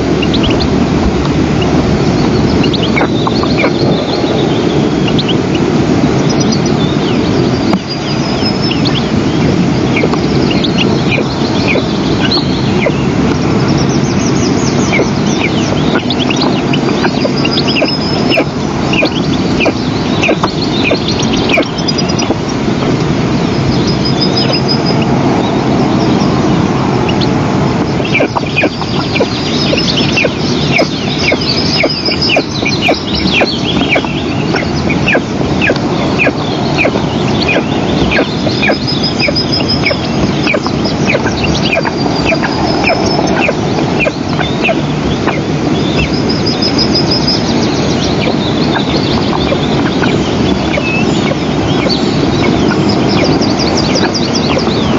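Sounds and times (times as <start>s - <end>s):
eagle chicks begging calls: 0.0s - 54.9s
low rushing noise: 0.0s - 54.9s.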